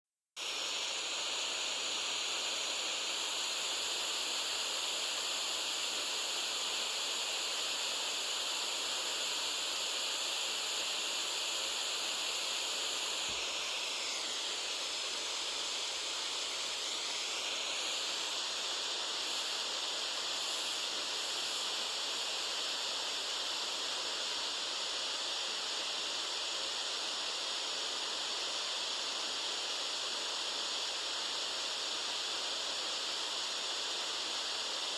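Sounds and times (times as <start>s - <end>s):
white noise hiss: 0.4s - 34.9s.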